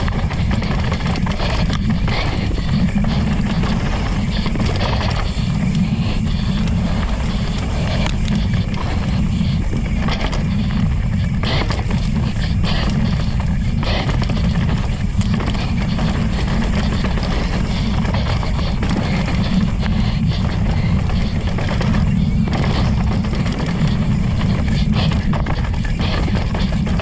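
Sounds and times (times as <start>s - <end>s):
bike rattling over bumps: 0.0s - 27.0s
tyres on dirt: 0.0s - 27.0s
wind rumbling on microphone: 0.0s - 27.0s.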